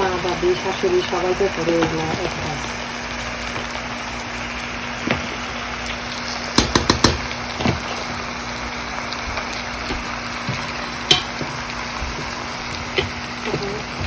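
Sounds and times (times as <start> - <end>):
food frying in a pot: 0.0 - 14.0.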